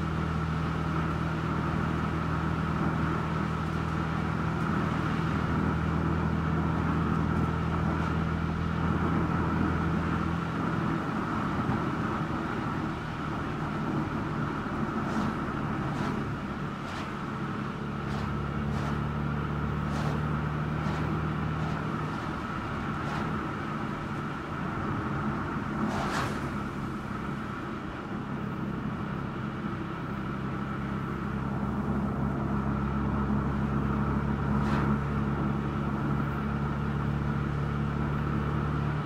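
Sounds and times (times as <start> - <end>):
car engine hum: 0.0 - 39.0.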